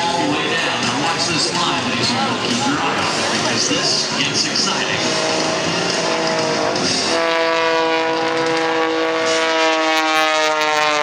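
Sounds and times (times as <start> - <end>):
propeller plane engine droning: 0.0 - 11.0
strong buzzing tone: 0.0 - 11.0.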